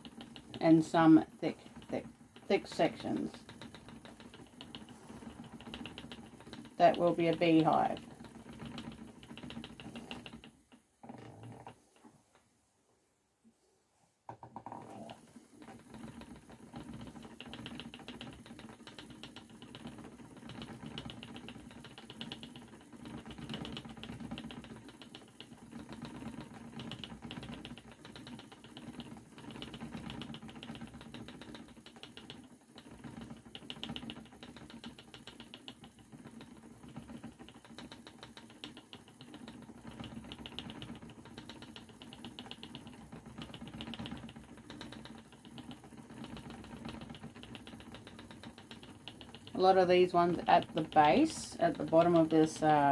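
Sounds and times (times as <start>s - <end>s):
spinning wheel clattering: 0.0s - 12.1s, 14.5s - 52.9s.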